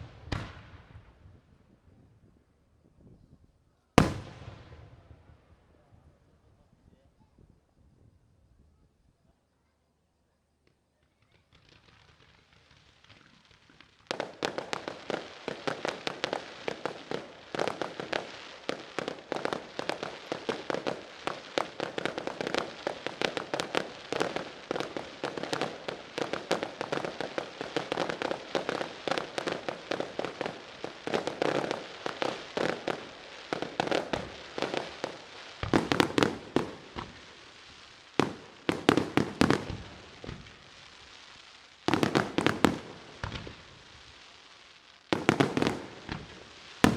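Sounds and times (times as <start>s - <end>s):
fireworks booms: 0.0s - 2.3s, 4.0s - 6.8s, 11.1s - 41.2s, 41.8s - 44.2s, 45.1s - 46.9s
fireworks bangs and crackles: 0.0s - 3.4s, 4.0s - 8.0s, 10.6s - 46.9s.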